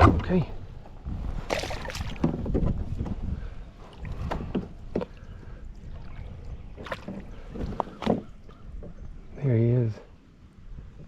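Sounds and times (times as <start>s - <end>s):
wind rumbling on microphone: 0.0s - 9.4s.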